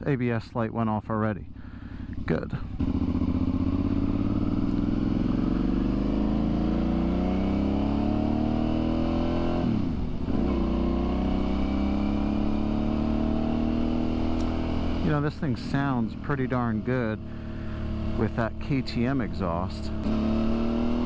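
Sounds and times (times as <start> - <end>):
motorcycle engine accelerating: 1.4 - 21.0.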